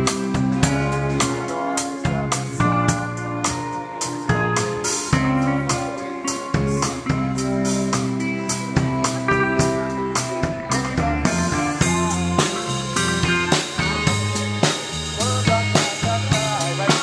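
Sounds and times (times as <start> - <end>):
bass guitar: 0.0 - 17.0
drum kit steady beat: 0.0 - 17.0
electric guitar: 0.0 - 17.0.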